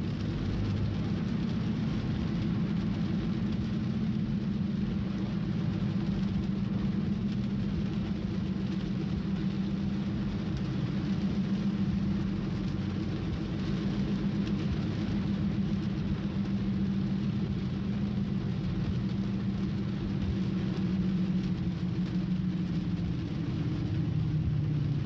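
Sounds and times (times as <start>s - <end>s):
car engine and road hum: 0.0s - 25.0s.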